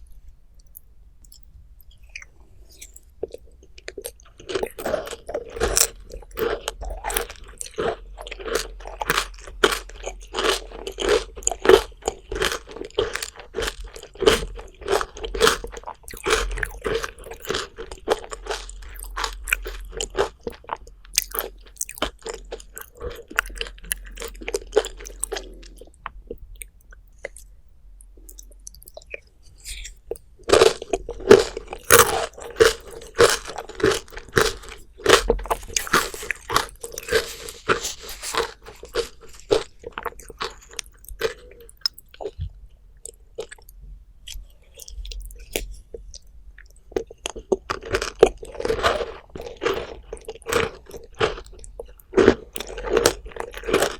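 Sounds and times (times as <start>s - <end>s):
person chewing crunchy food: 0.6s - 53.9s.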